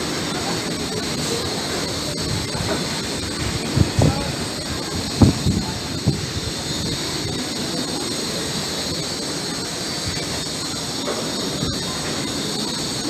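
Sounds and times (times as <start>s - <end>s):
freight train rumbling: 0.0s - 13.0s
train wagons clanking: 0.0s - 13.0s.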